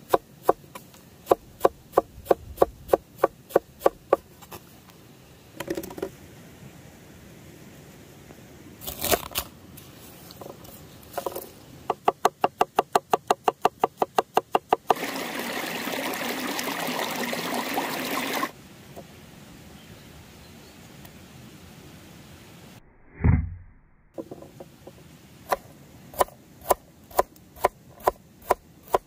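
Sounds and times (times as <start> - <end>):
steady hiss: 0.0 - 13.4, 14.1 - 22.8, 24.2 - 29.0.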